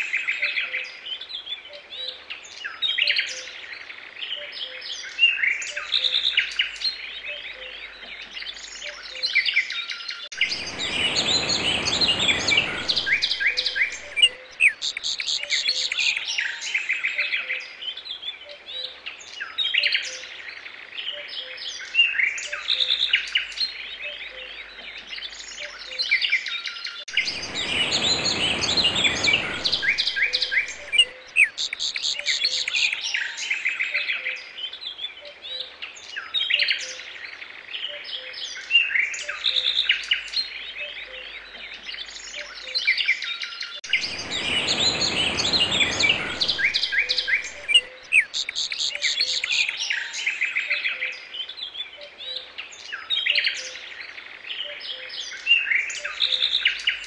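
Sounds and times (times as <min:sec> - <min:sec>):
small birds chirping and singing: 0:00.0 - 0:57.0.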